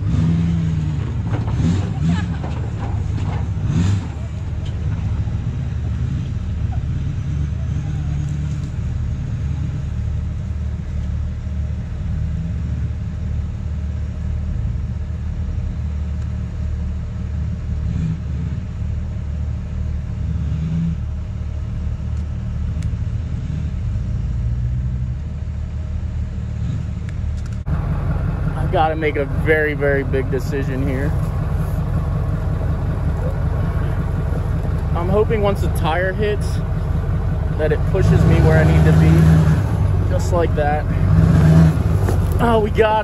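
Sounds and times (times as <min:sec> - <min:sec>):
pickup engine low rumble: 0:00.0 - 0:43.0.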